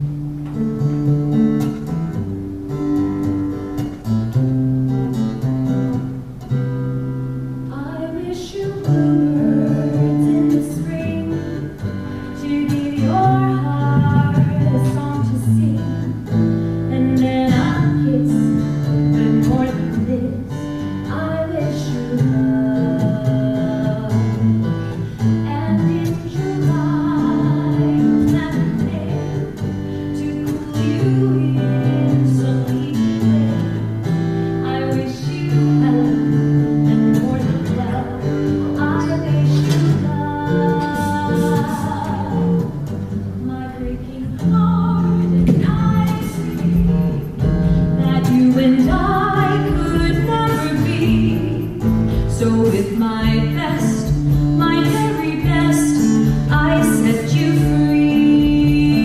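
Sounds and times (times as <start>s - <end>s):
acoustic guitar strumming ballad: 0.0s - 59.0s.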